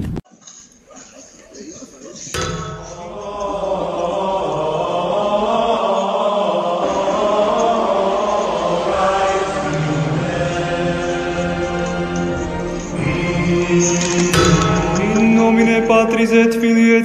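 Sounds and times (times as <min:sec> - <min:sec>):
choir chanting: 0:00.9 - 0:17.0.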